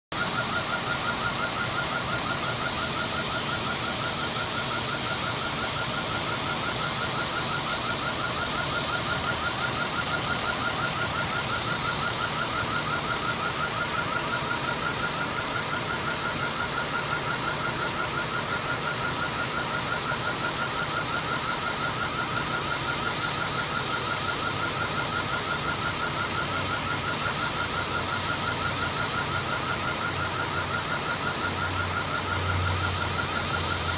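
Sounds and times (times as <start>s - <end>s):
electronic alarm beeping rapidly: 0.1s - 33.9s
fire engines idling: 0.1s - 33.9s.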